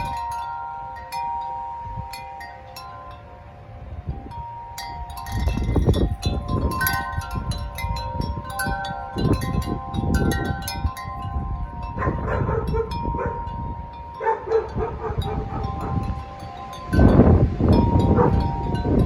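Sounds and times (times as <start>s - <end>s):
wind chimes ringing: 0.0s - 19.0s
wind gusts on microphone: 0.0s - 19.0s.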